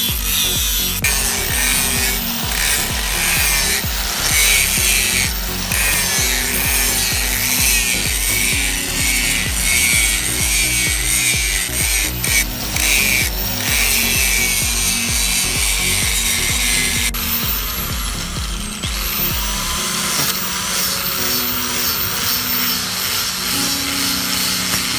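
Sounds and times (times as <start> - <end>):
angle grinder grinding metal: 0.0 - 24.9.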